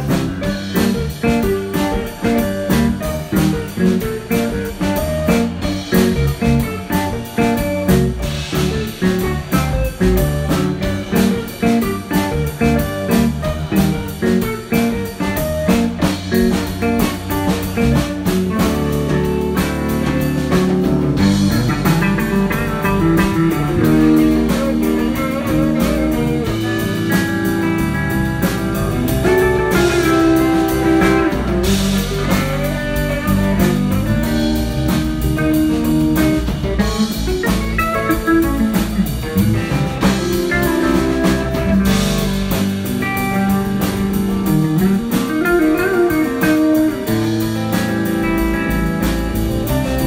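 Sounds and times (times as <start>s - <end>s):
blues-rock music: 0.0s - 50.0s
drum kit beat: 0.0s - 50.0s
electric guitar: 0.0s - 50.0s.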